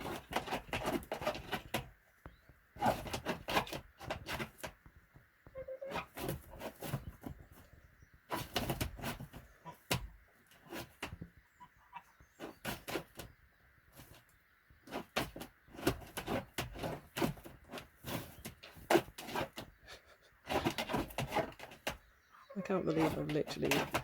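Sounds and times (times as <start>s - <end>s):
hen scratching in straw: 0.0s - 4.8s, 5.5s - 24.0s.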